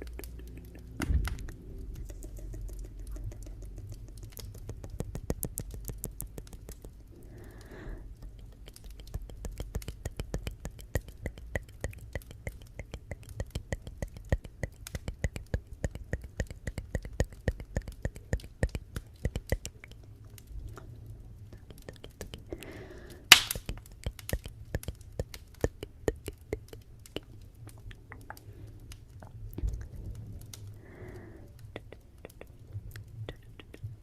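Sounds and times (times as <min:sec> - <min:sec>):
wood fire crackling and popping: 0:00.0 - 0:33.6.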